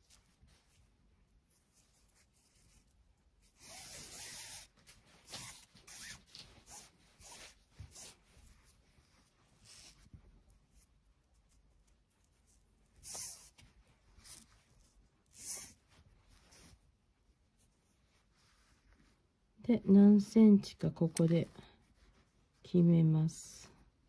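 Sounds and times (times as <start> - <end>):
cord swishing and rubbing: 0.0 - 19.3, 21.1 - 22.7.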